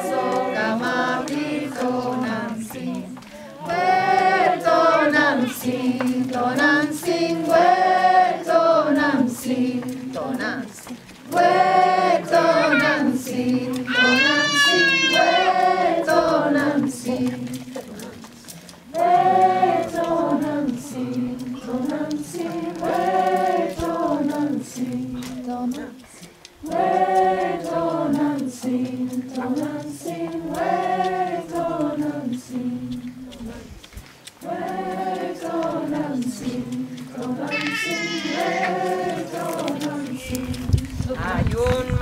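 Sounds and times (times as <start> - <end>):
group of voices singing: 0.0 - 42.0.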